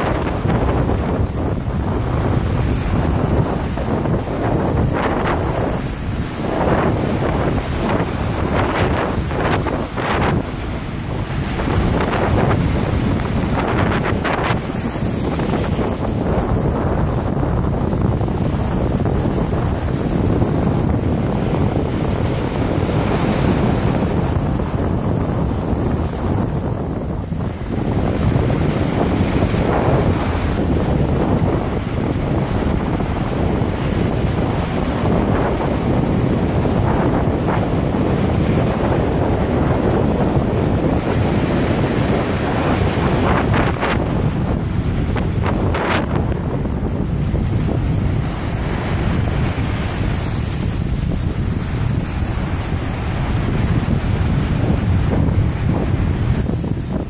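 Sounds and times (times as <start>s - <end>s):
ocean surf breaking: 0.0s - 57.0s
wind noise on microphone: 0.0s - 57.0s.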